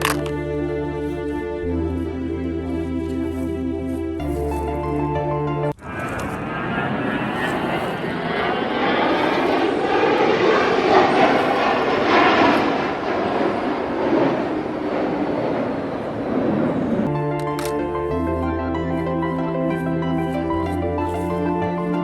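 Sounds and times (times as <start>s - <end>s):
airplane engine noise: 0.0s - 22.0s.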